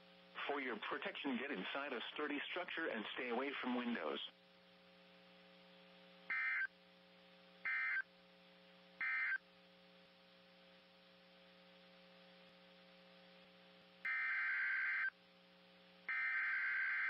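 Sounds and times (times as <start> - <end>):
radio hum and hiss: 0.0 - 17.0.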